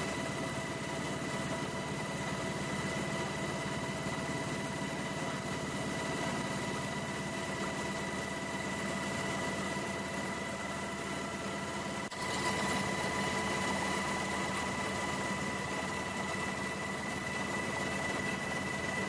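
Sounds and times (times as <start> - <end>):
aircraft engine drone: 0.0 - 19.0
constant high whine: 0.0 - 19.0.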